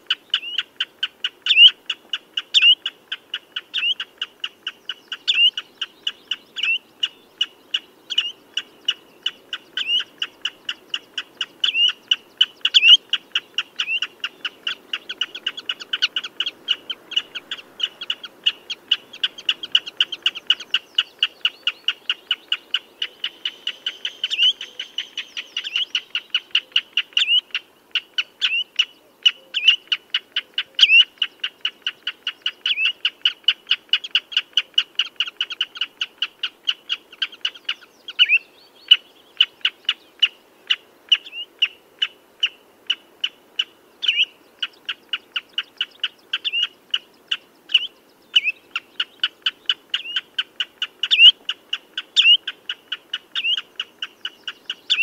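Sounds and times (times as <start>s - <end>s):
bird piping calls: 0.0s - 55.0s.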